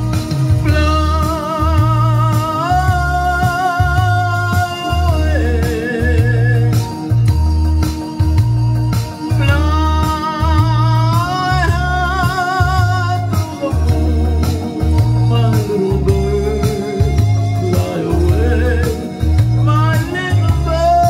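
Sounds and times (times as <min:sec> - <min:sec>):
man singing with vibrato: 0:00.0 - 0:07.4, 0:09.2 - 0:21.0
backing music with pulsing bass: 0:00.0 - 0:21.0.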